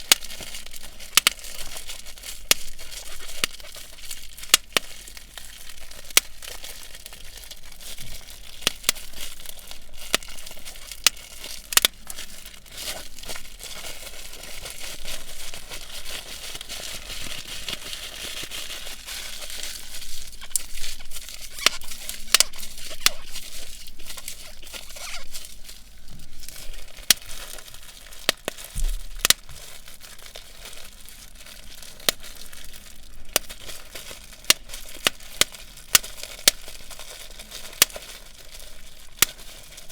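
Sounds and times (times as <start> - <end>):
bubble wrap crinkling: 0.0 - 39.9
bubble wrap popping: 0.0 - 39.9.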